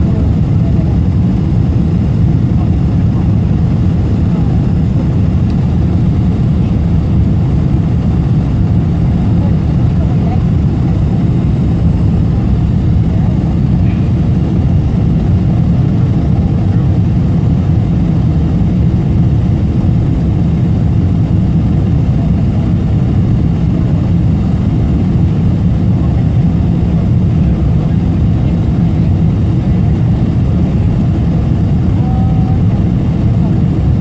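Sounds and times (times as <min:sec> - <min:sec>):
jet engine low rumble: 0:00.0 - 0:34.0.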